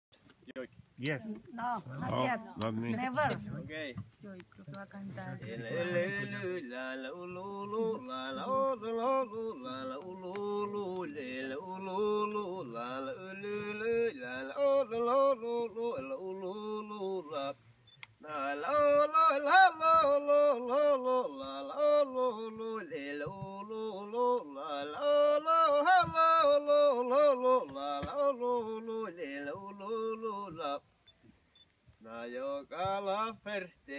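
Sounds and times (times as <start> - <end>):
man singing unaccompanied: 5.3 - 31.0, 32.0 - 33.9.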